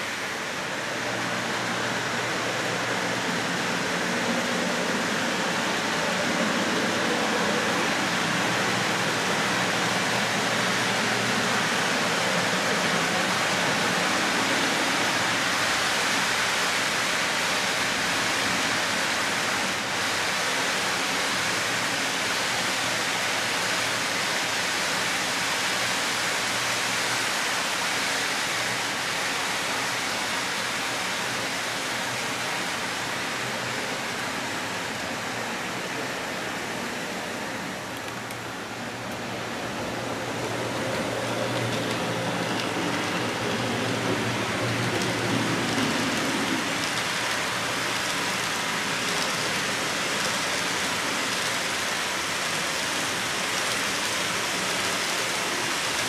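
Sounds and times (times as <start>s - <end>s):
model trains whirring on rails: 0.0s - 56.0s.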